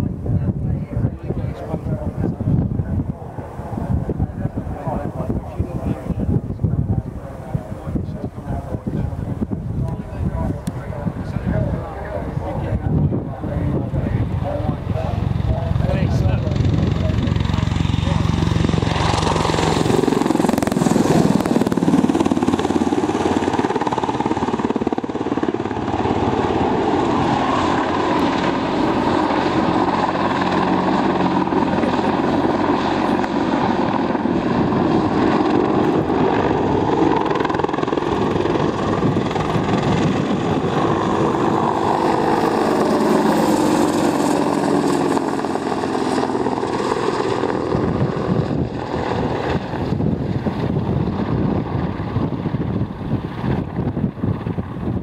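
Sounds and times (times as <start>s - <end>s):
helicopter flying: 0.0s - 55.0s.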